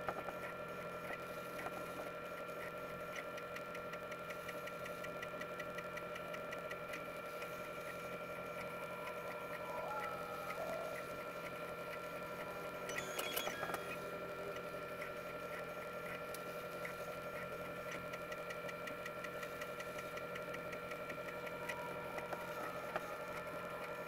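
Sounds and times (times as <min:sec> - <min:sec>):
printer motor and fan whine: 0:00.0 - 0:24.0
faint ticking: 0:02.6 - 0:24.0.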